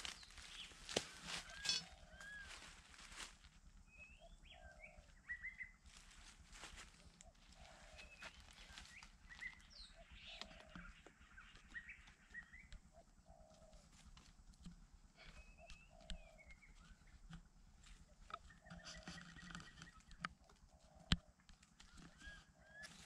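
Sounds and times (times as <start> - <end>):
bird chirps and clucks: 0.1 - 2.6, 6.7 - 23.0.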